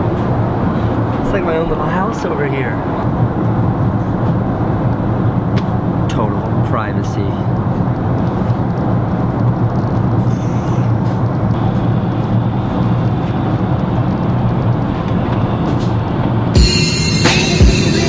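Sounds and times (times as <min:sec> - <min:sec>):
airliner cabin engine rumble: 0:00.0 - 0:16.6
constant low hum: 0:00.0 - 0:18.0.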